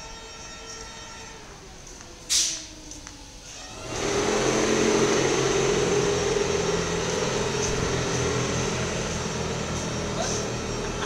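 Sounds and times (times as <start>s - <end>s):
electric locomotive droning: 0.0s - 11.0s.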